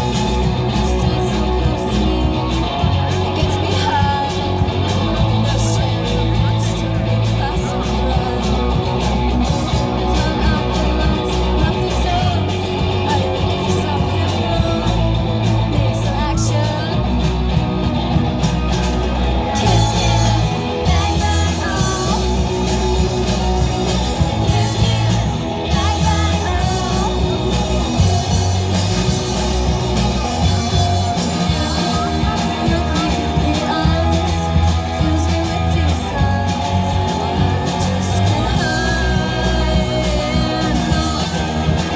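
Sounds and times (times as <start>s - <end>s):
women singing: 0.0s - 17.2s, 19.5s - 28.2s, 30.8s - 41.9s
electric bass: 0.0s - 41.9s
electric guitar: 0.0s - 41.9s
rock band playing: 0.0s - 41.9s.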